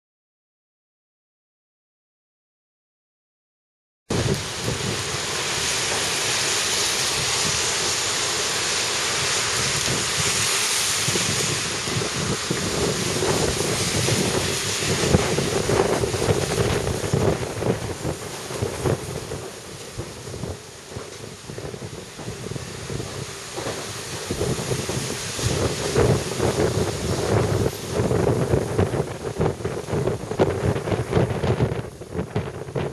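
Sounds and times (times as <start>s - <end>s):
wind gusting on microphone: 4.1s - 32.9s.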